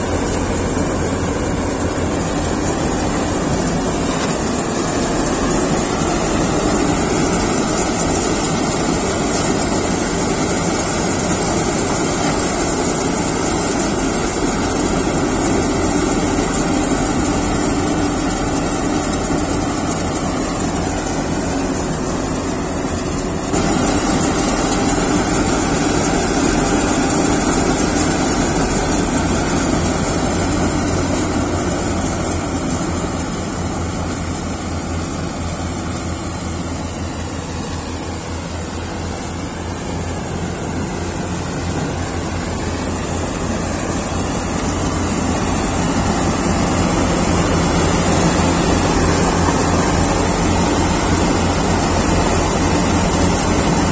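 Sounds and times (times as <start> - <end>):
combine harvester running: 0.0 - 53.9.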